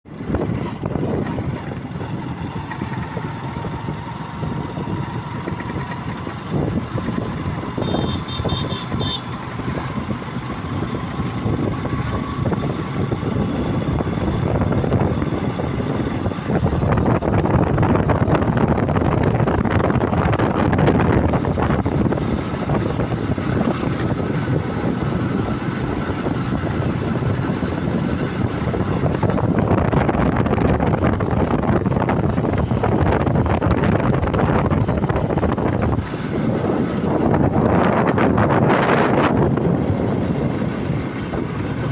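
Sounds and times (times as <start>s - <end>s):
vehicle engine and road noise: 0.0s - 41.9s.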